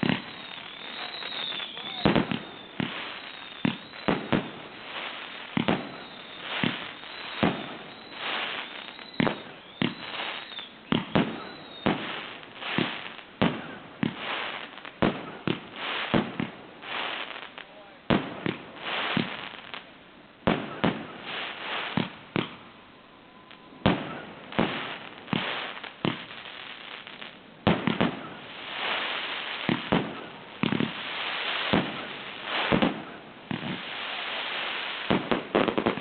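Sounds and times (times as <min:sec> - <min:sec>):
hissing crackling firework stars: 0:00.0 - 0:36.0.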